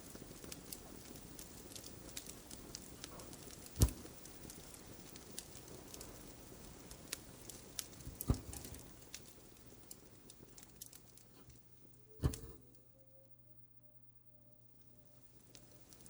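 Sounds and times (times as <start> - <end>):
wood fire crackling: 0.0 - 12.8, 14.7 - 16.0.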